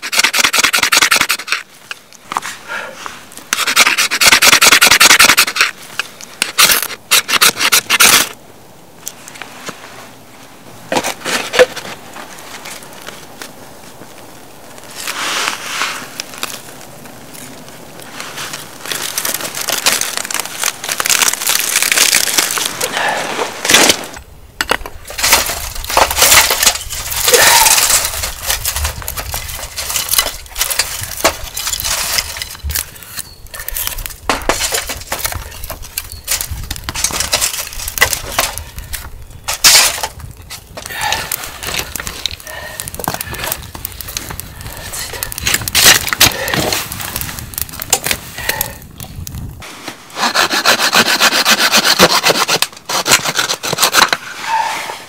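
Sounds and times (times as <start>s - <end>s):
twigs rustling and knocking: 0.0s - 8.4s, 9.0s - 54.4s
kindling crackling and snapping: 0.0s - 55.0s.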